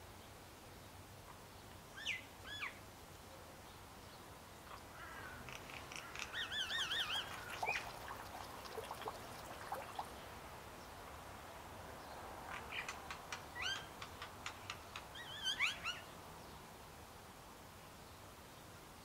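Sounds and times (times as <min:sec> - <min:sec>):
songbirds calling: 0:00.2 - 0:16.8.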